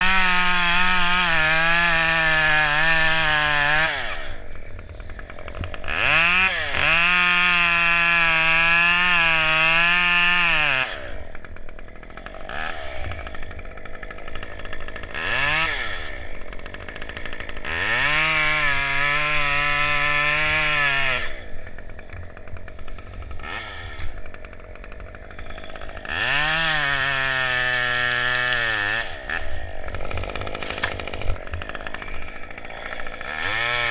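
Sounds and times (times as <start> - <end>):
chainsaw idling: 0.0 - 33.9
chainsaw revving: 0.0 - 33.9.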